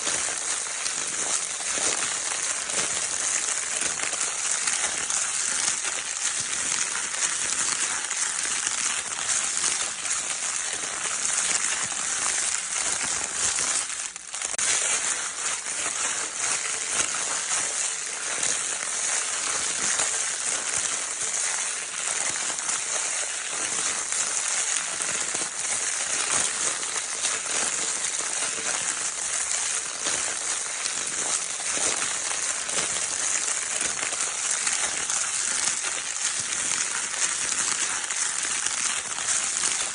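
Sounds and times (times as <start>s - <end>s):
crinkle paper toy crackling: 0.0s - 39.9s.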